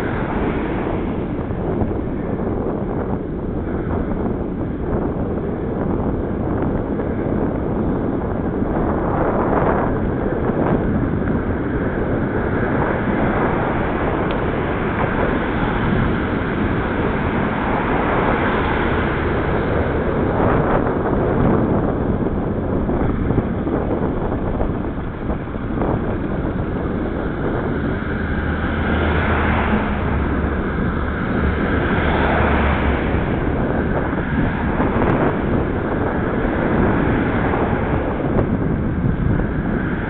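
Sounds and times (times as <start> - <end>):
bicycle tyre and road noise: 0.0 - 40.0
wind rushing over microphone: 0.0 - 40.0.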